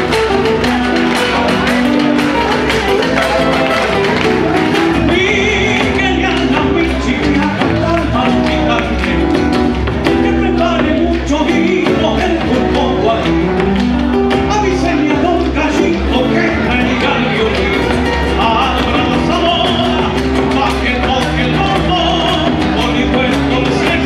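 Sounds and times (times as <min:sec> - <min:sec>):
acoustic guitars strumming: 0:00.0 - 0:24.0
drum beat: 0:00.0 - 0:24.0.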